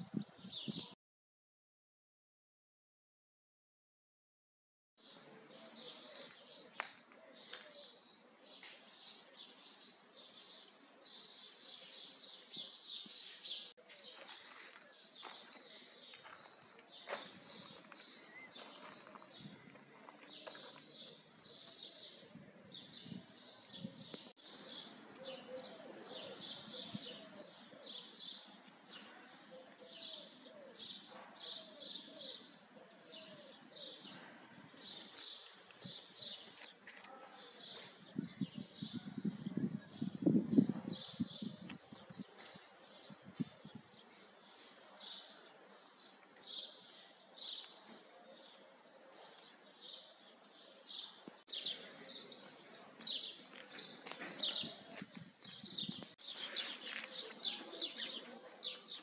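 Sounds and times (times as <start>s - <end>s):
songbirds chirping: 5.0s - 59.0s.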